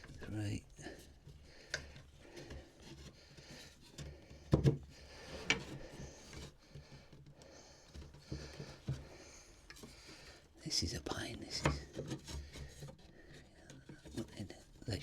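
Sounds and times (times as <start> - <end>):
wooden spindles knocking and rubbing: 0.0 - 10.4, 11.2 - 15.0.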